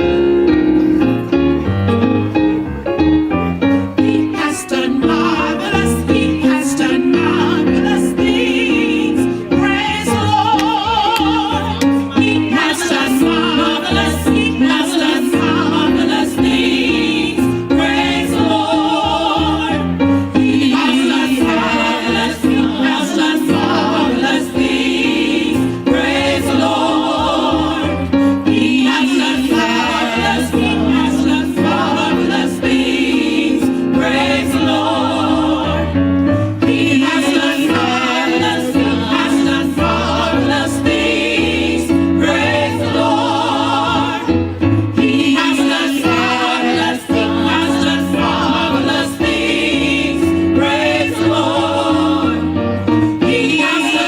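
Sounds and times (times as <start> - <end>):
gospel choir singing: 3.6 - 54.0.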